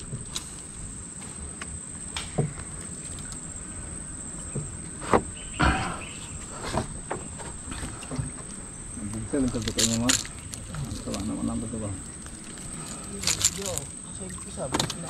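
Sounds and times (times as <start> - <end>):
knocks and rustles in boat: 0.0 - 3.6, 4.2 - 15.0
insect chorus: 0.0 - 15.0.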